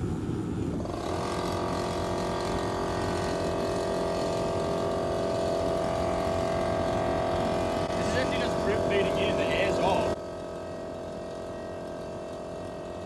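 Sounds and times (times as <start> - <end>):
burner flame rumble: 0.0 - 10.5
air compressor hum: 0.0 - 13.0.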